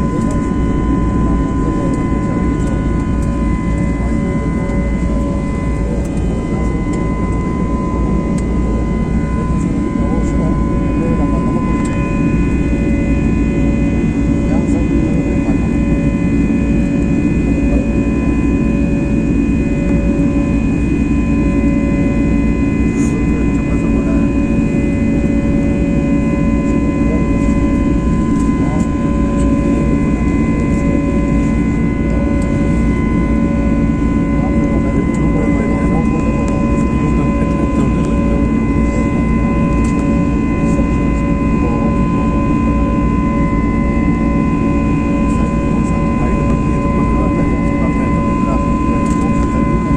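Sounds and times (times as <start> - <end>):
jet engines during take-off: 0.0 - 49.9.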